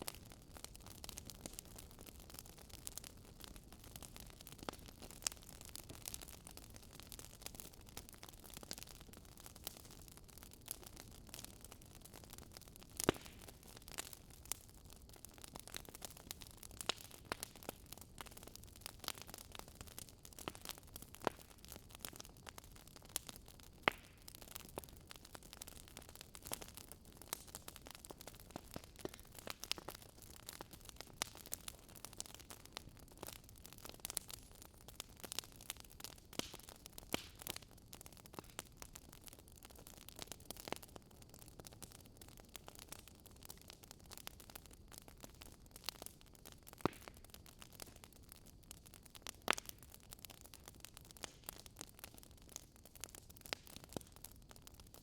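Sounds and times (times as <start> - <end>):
burning wood popping: 0.0 - 55.0
campfire crackling: 0.0 - 55.0.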